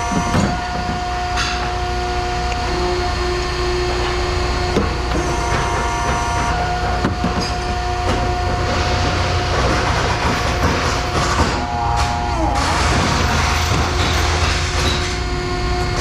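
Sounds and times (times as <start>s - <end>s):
heavy machinery rumbling and whining: 0.0s - 16.0s.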